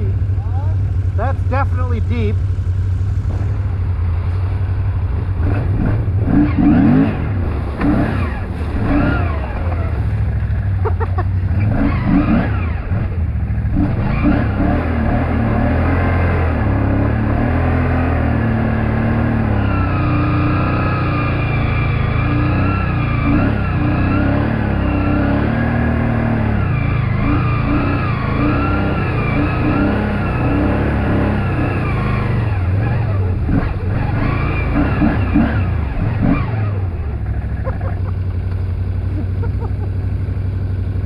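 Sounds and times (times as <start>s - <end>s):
quad engine revving: 0.0s - 41.0s.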